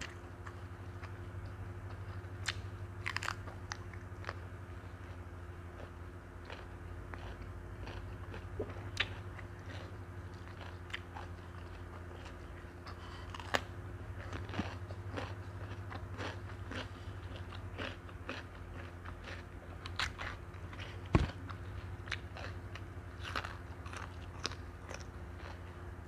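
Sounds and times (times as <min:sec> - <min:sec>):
crunchy chewing: 0:00.0 - 0:26.0
low hum: 0:00.0 - 0:26.0.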